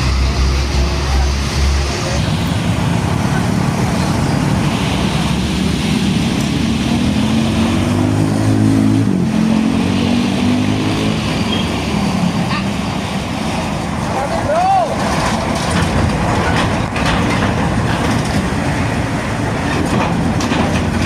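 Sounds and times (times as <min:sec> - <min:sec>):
diesel truck engine passing: 0:00.0 - 0:21.0
tyre and road noise: 0:00.0 - 0:21.0.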